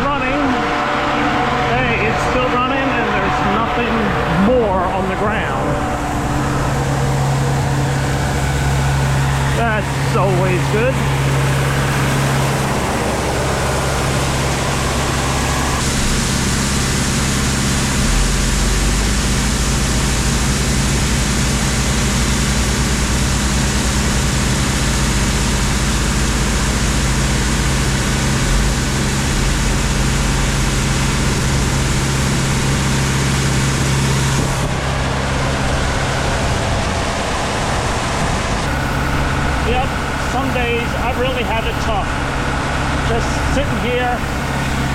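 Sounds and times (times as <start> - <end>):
machine engine running: 0.0 - 44.9.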